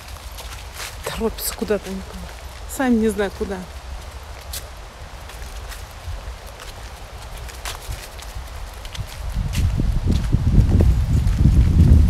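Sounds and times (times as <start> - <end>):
footsteps through dry leaves: 0.0 - 12.0
wind rumble on microphone: 0.0 - 12.0.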